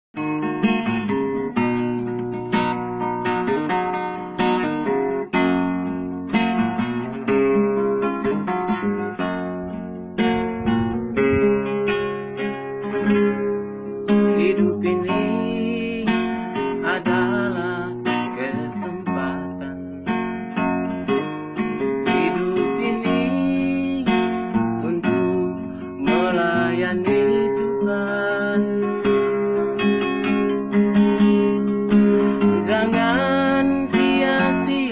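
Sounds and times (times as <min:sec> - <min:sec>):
acoustic guitar strumming and picking: 0:00.2 - 0:34.9.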